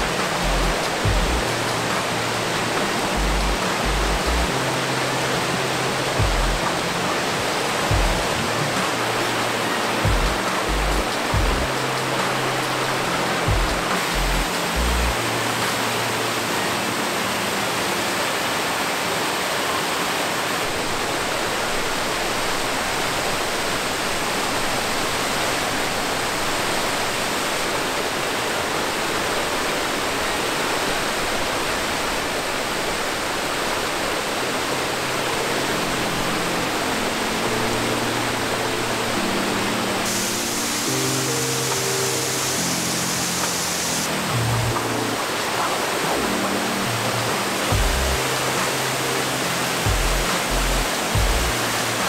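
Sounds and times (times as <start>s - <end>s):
waterfall rushing over rocks: 0.0s - 52.0s.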